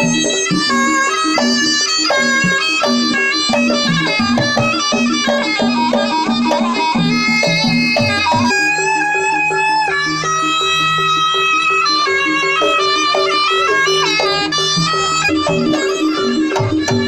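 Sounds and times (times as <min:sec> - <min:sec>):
shrill reedy wind instrument: 0:00.0 - 0:17.0.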